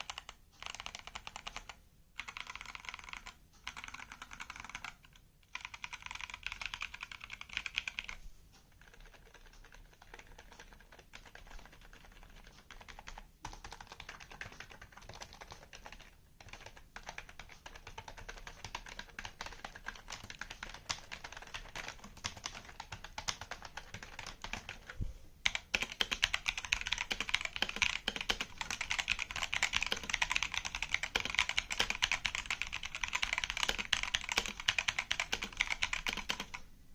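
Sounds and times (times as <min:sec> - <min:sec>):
fast typing on keyboard: 0:00.0 - 0:36.7.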